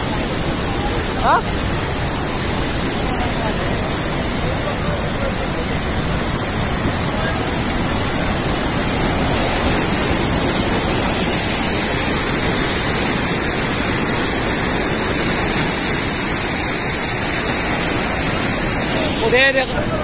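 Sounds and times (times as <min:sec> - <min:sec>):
flooded river roaring: 0:00.0 - 0:20.0.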